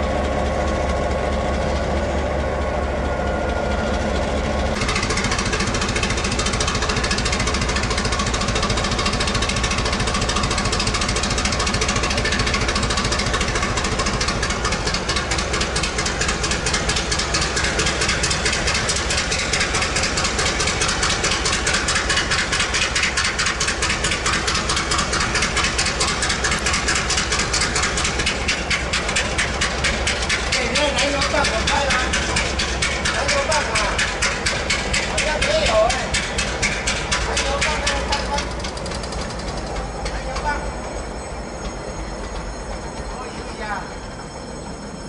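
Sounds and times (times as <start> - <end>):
diesel locomotive engine idling: 0.0 - 45.0.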